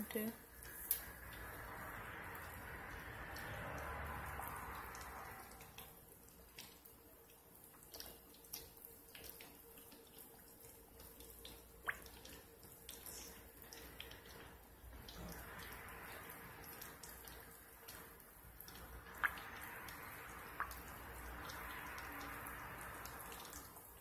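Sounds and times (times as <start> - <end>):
fish frying in oil: 0.0 - 24.0.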